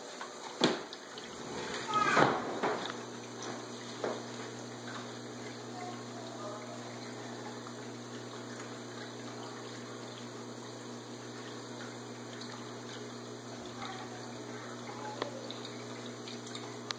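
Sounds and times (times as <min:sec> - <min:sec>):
water trickling into aquarium: 0:00.0 - 0:16.9.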